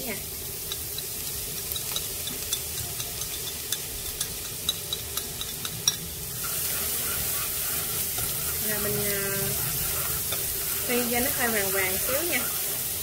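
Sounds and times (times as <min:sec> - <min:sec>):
lemongrass sizzling in hot oil: 0:00.0 - 0:13.0.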